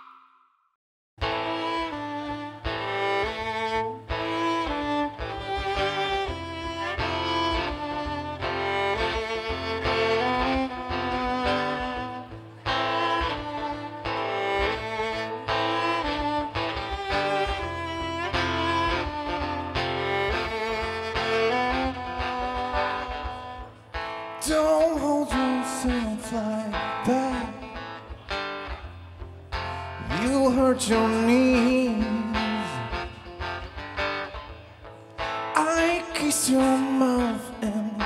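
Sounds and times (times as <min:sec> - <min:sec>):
violin melody: 0:01.2 - 0:34.7
live band playing: 0:01.2 - 0:37.9.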